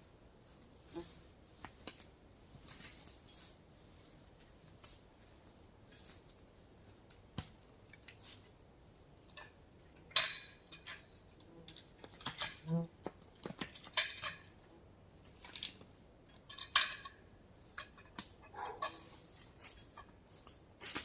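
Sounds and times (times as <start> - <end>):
logging gear clicks and rustles: 0.0 - 21.0.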